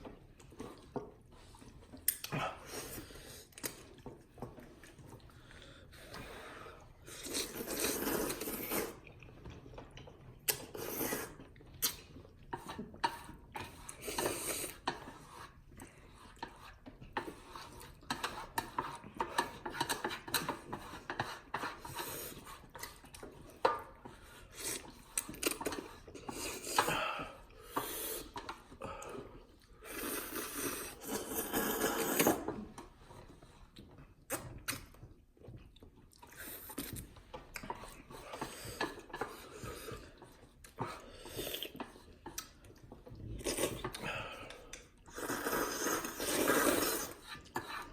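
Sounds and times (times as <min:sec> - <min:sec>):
slurping and chewing noodles: 0:00.0 - 0:47.9.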